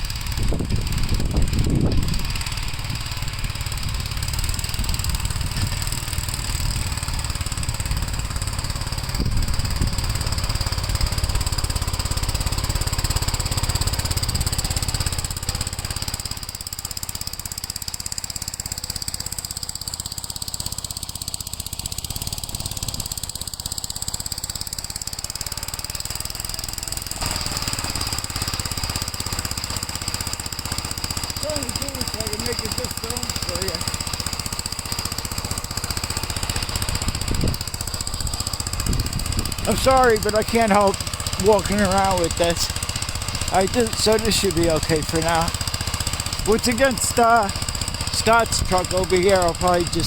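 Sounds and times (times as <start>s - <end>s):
small engine running: 0.0s - 50.0s.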